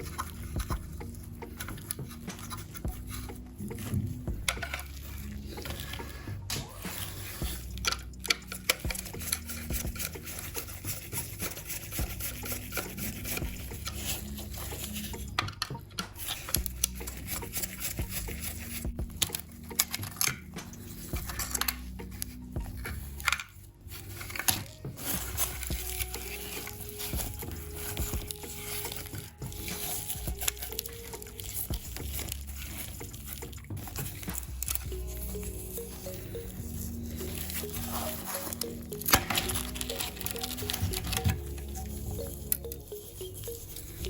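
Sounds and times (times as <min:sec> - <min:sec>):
small parts clicking and scraping: 0:00.0 - 0:44.0.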